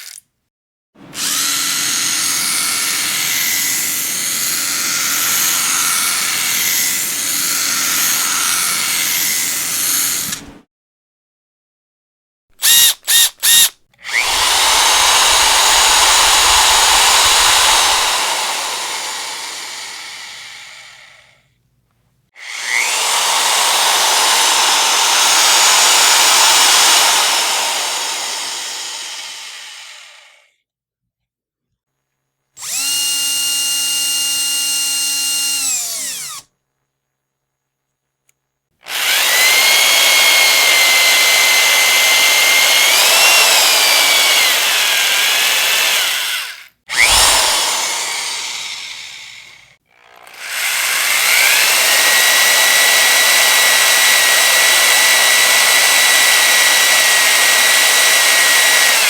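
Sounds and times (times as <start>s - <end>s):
power drill running: 1.0s - 10.4s, 12.6s - 21.3s, 22.4s - 30.5s, 32.6s - 36.5s, 38.8s - 59.0s.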